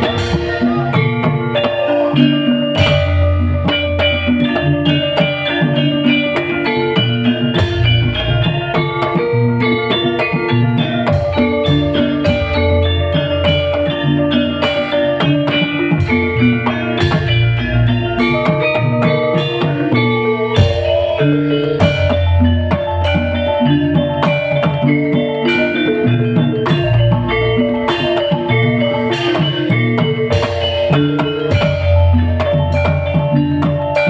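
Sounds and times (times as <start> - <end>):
drum beat: 0.0 - 34.0.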